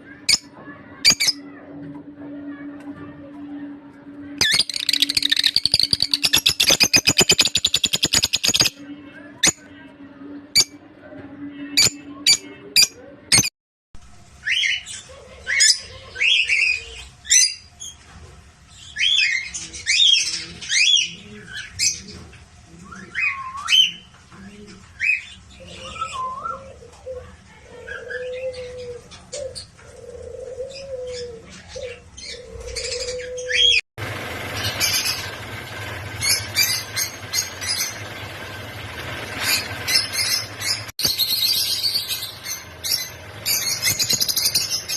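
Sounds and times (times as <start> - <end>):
lovebirds chirping and squawking: 0.0 - 1.6, 4.4 - 9.7, 11.6 - 13.5, 14.4 - 18.1, 18.7 - 33.8, 34.4 - 44.9.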